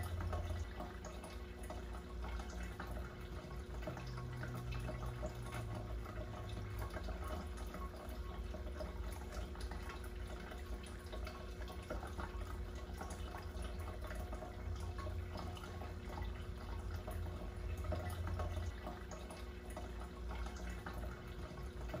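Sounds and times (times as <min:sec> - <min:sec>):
water trickling and dripping: 0:00.0 - 0:22.0.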